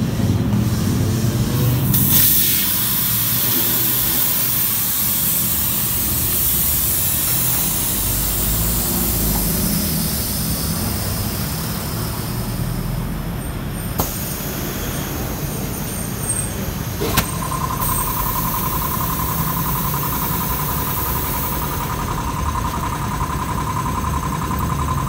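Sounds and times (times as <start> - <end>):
low mechanical hum: 0.0 - 25.0
compressed air hissing: 0.1 - 13.1, 13.9 - 22.3.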